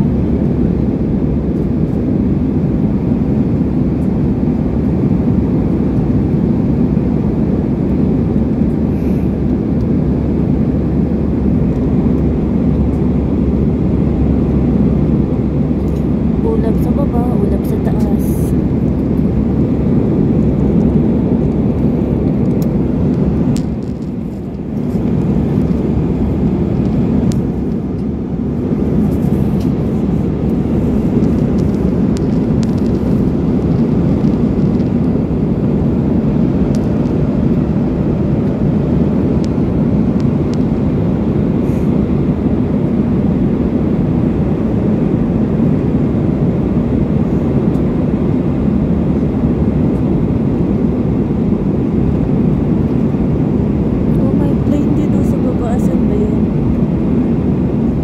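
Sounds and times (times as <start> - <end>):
jet engine and airflow roar: 0.0 - 58.0.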